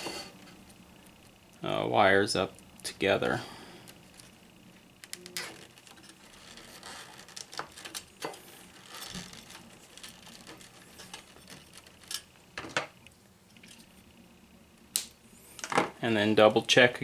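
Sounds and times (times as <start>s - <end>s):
wires rustling: 0.0s - 16.7s.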